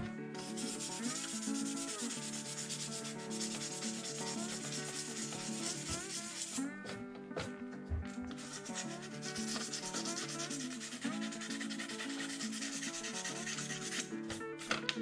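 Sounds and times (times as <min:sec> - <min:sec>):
sandpaper rubbing: 0:00.4 - 0:06.6, 0:08.3 - 0:14.1.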